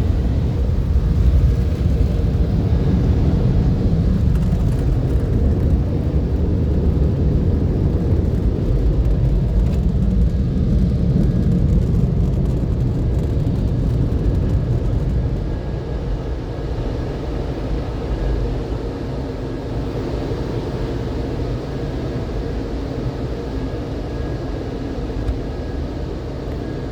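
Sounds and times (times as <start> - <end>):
car wash dryer blowers rumbling: 0.0 - 26.9.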